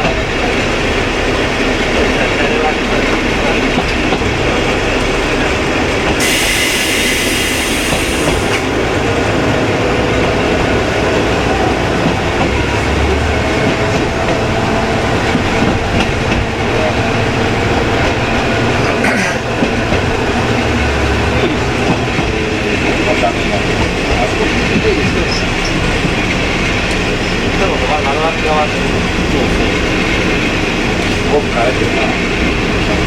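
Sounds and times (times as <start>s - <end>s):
railcar running drone: 0.0s - 33.0s.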